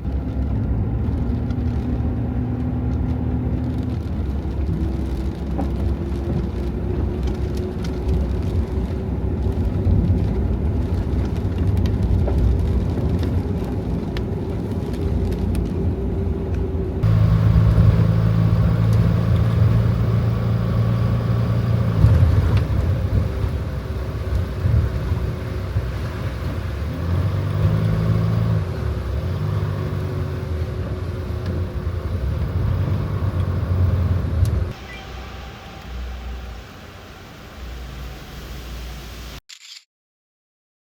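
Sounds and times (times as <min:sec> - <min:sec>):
van engine and road rumble: 0:00.0 - 0:39.7.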